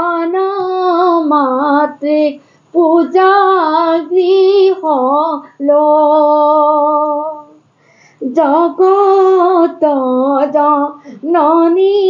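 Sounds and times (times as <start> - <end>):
woman singing a chant: 0.0 - 7.6, 8.2 - 12.0.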